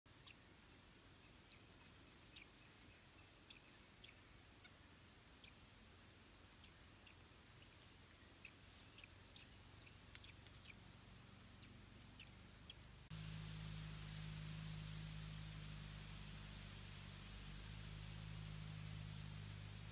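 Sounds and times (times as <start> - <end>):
steady low hum: 0.1 - 19.9.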